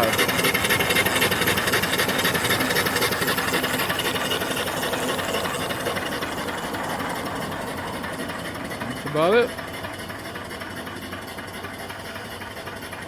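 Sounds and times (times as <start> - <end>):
steam engine running: 0.0 - 13.0.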